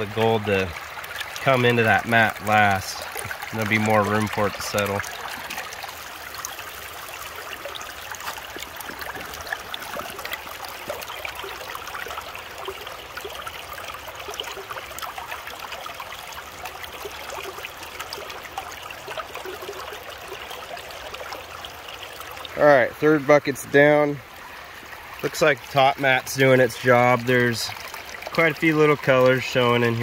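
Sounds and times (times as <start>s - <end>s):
water rushing through sluice box: 0.0s - 30.0s.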